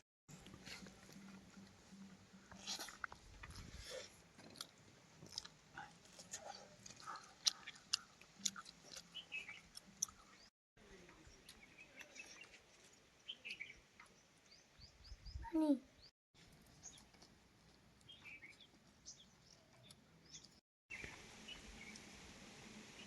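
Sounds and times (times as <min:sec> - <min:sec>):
people chewing food: 0:00.3 - 0:14.5, 0:16.4 - 0:21.2.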